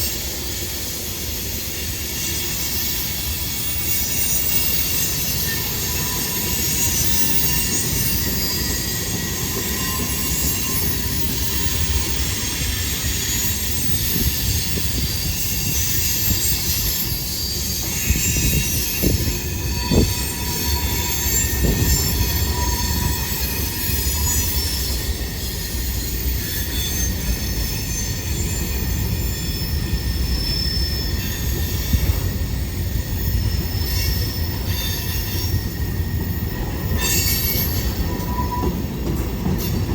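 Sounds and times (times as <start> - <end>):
train rumbling past: 0.0 - 39.9
train wheels squealing on rail: 0.0 - 39.9.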